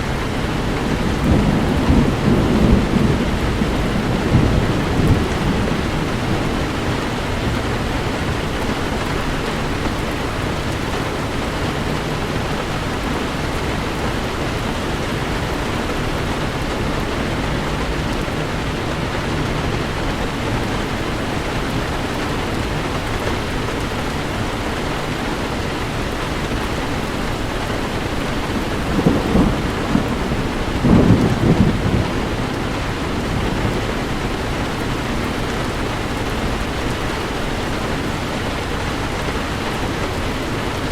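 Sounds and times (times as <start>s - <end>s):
heavy rain on a car: 0.0s - 40.9s
thunder rumbling: 0.0s - 40.9s.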